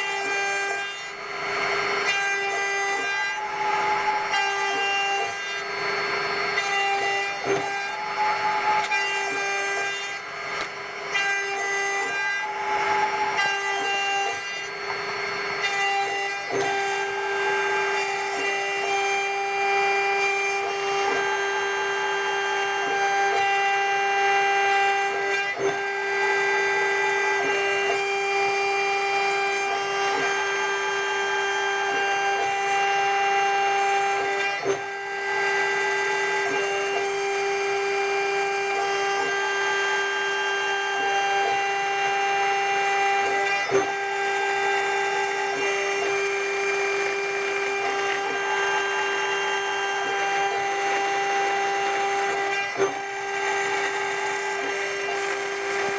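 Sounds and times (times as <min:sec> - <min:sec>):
milling spindle whining: 0:00.0 - 0:55.9
rasping metal cutting: 0:00.0 - 0:55.9.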